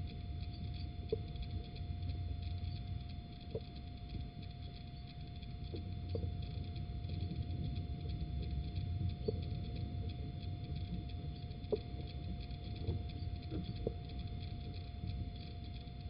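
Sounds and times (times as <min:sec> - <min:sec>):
faint ticking: 0:00.0 - 0:16.0
thin electrical tone: 0:00.0 - 0:16.0.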